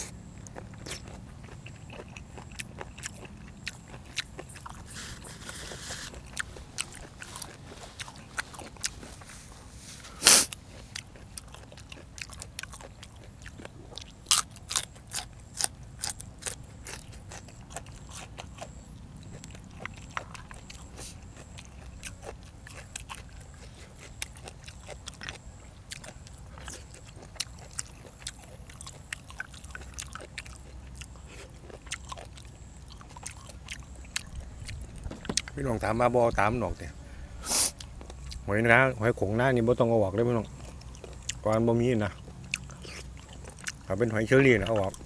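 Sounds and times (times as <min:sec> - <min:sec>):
person biting and chewing: 0:00.0 - 0:35.9, 0:37.3 - 0:38.5, 0:40.4 - 0:41.4, 0:42.1 - 0:43.9.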